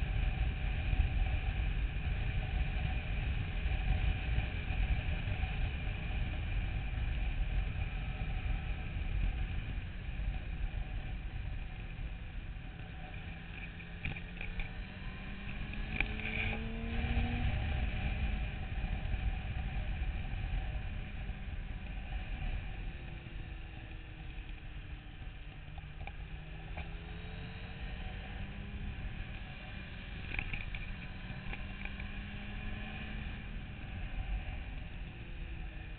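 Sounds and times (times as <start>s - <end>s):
motorcycle engine running: 0.0s - 35.9s
wind rumble on microphone: 0.0s - 35.9s.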